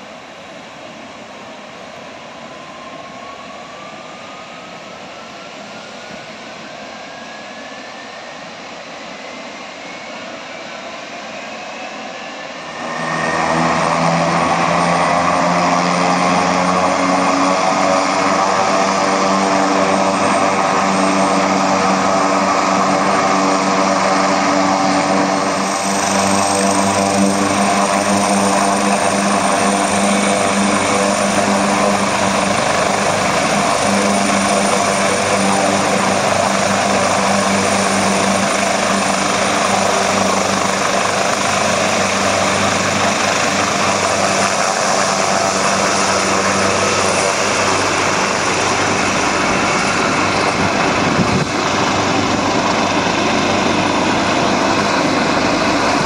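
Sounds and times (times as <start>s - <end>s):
turbine whine: 0.0s - 56.0s
helicopter rotor hum: 5.1s - 56.0s.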